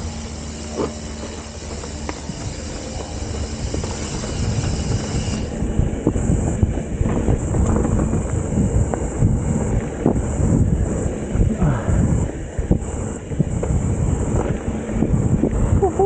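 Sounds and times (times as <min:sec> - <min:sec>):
bike rattling and knocking: 0:00.0 - 0:16.0
bike tyres rumbling on dirt: 0:00.0 - 0:16.0.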